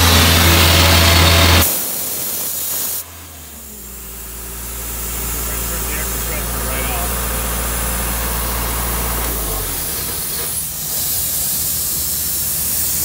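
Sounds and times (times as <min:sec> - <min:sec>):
air compressor engine running: 0:00.0 - 0:13.0
compressed air hissing: 0:00.0 - 0:13.0.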